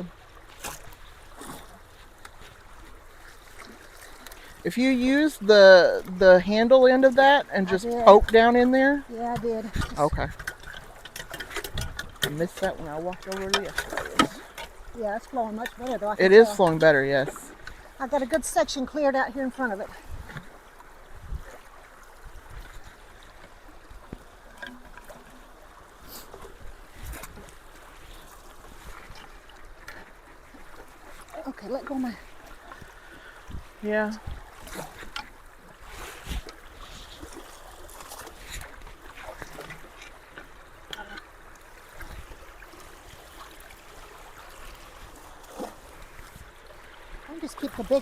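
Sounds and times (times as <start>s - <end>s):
creek water running: 0.0s - 48.0s.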